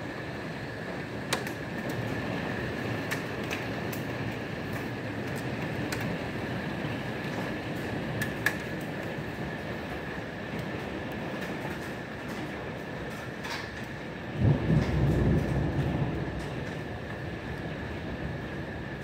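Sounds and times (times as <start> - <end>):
rain and hail falling: 0.0 - 19.0
wind roaring: 0.0 - 19.0
hailstones clicking: 0.2 - 19.0.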